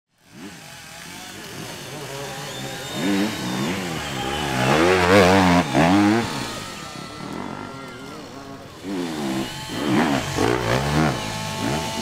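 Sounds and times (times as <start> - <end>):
motorcycle engine revving: 0.2 - 12.0.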